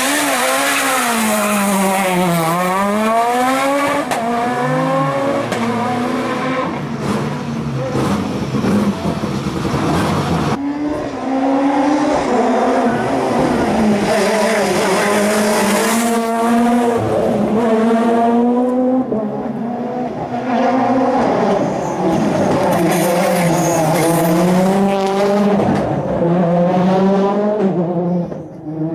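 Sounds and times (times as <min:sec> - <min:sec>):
rally car engine revving: 0:00.0 - 0:28.9.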